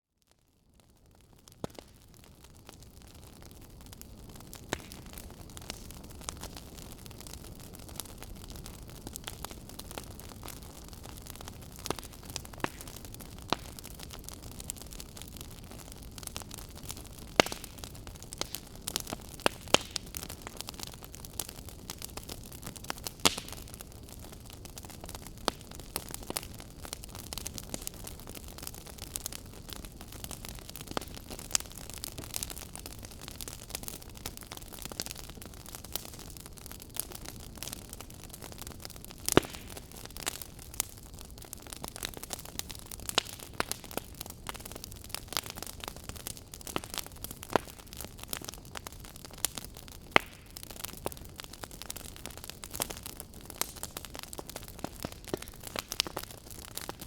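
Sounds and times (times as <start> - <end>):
fire crackling: 0.6 - 57.0.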